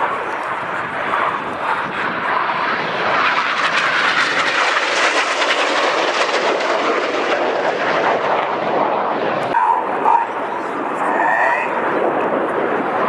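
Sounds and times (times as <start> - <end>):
jets flying past low: 0.0 - 13.0.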